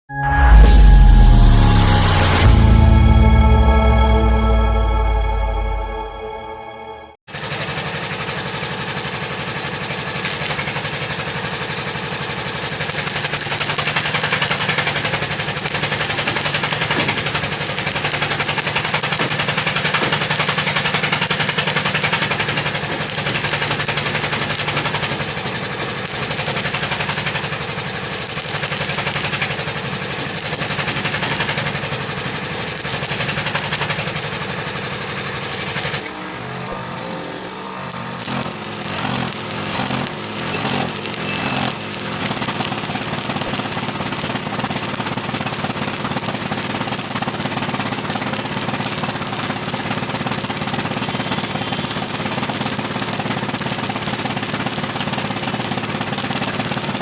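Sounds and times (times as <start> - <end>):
metalworking machine crackle: 0.6 - 5.1, 7.3 - 57.0.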